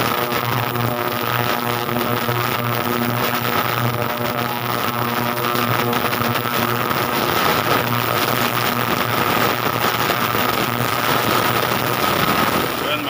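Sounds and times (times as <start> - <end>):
motor humming with high whine: 0.0 - 13.0.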